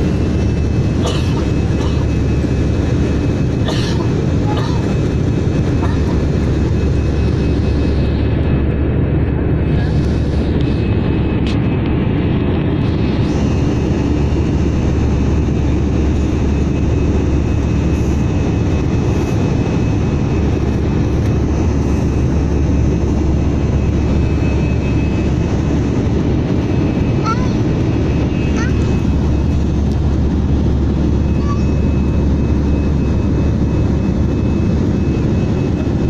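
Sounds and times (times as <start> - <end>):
low rumble of airliner cabin: 0.0 - 36.0.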